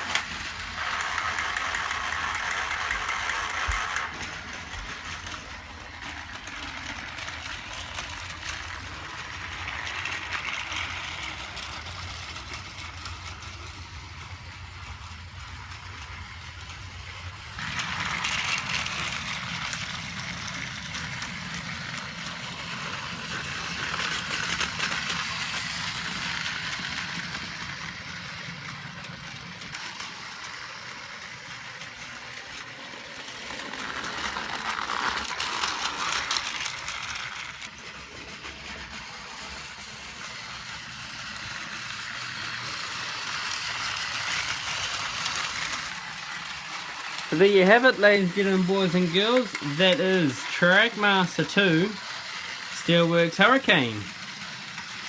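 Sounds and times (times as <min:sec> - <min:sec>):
toy train motor whirring: 0:00.0 - 0:55.0
toy trucks clattering on plastic track: 0:00.0 - 0:55.0.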